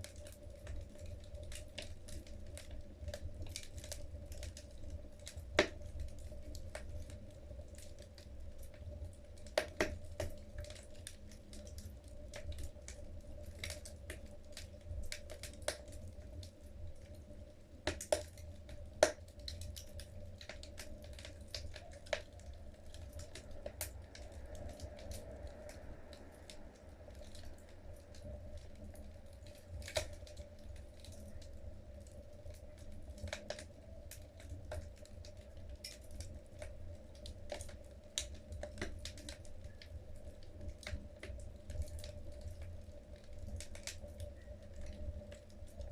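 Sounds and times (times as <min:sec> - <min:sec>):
burning logs crackling and popping: 0:00.0 - 0:45.9
low steady fire rumble: 0:00.0 - 0:45.9.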